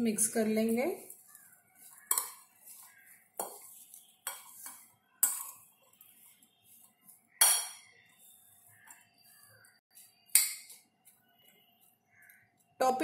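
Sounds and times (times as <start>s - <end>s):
spoon scraping a ceramic bowl: 1.0s - 12.7s.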